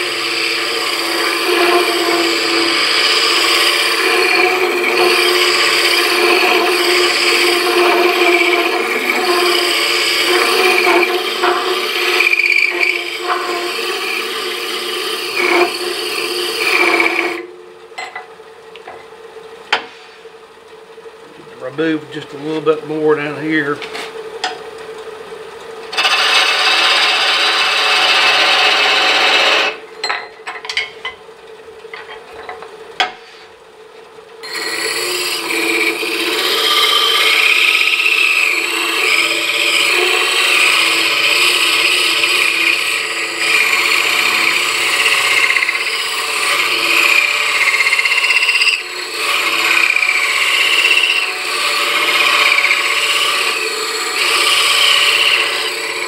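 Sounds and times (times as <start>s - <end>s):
hole saw rasping wooden ball: 0.0s - 17.5s, 21.6s - 23.8s, 25.9s - 29.8s, 34.4s - 56.0s.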